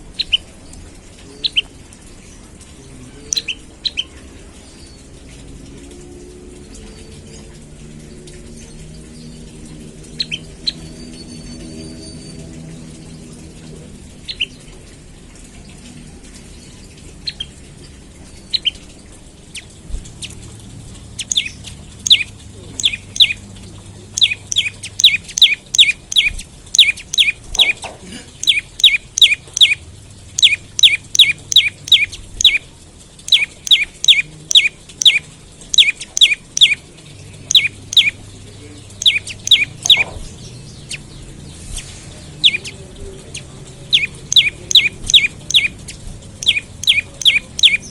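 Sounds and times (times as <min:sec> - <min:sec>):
bird chirping: 0:00.0 - 0:05.1, 0:06.6 - 0:14.8, 0:15.6 - 0:47.9.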